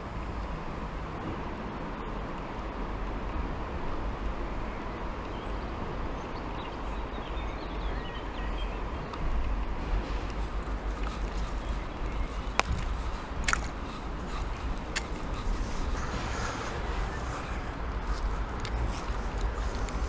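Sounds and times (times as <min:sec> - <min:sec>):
traffic rumbling on bridge: 0:00.0 - 0:20.0.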